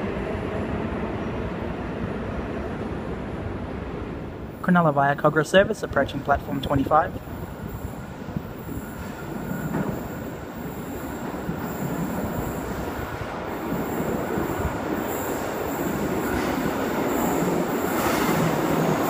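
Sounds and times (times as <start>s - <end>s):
electric train rumbling in tunnel: 0.0s - 19.0s.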